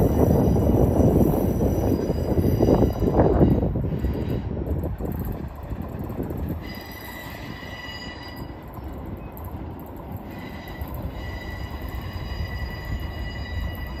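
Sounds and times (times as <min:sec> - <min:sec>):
train wheels squealing: 0:00.0 - 0:04.6, 0:06.5 - 0:14.0
rumble of train cars rolling: 0:00.0 - 0:14.0.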